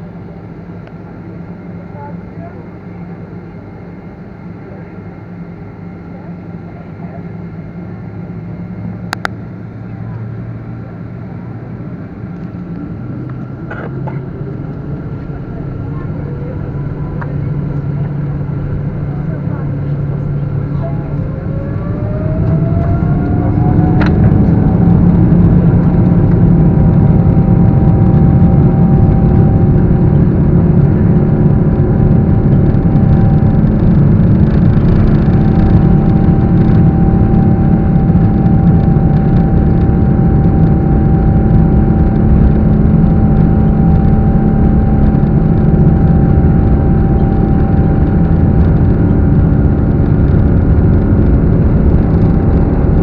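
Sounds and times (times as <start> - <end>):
jet engines spooling up: 10.6 - 53.0.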